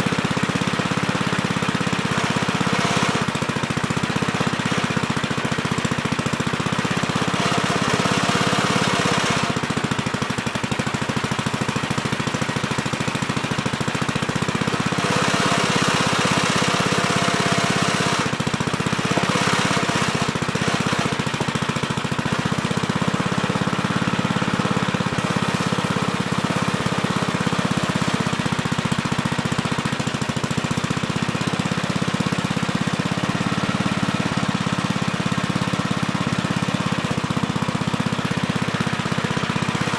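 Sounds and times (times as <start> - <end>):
small backhoe engine running: 0.0 - 39.9.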